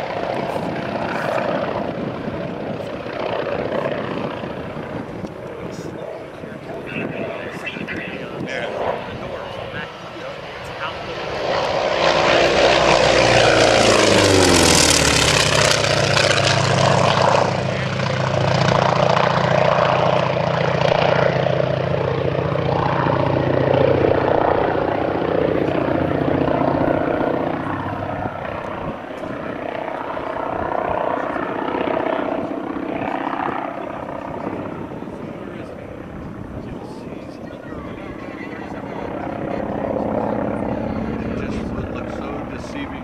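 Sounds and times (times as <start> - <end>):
propeller plane passing: 0.0 - 43.0.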